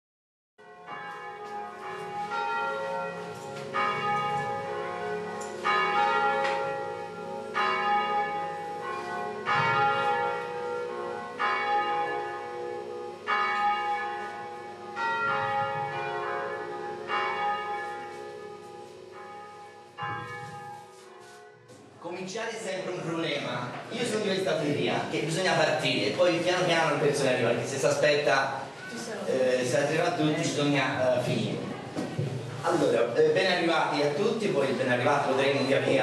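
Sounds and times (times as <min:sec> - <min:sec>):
church bells ringing: 0:00.6 - 0:31.9, 0:33.1 - 0:36.0.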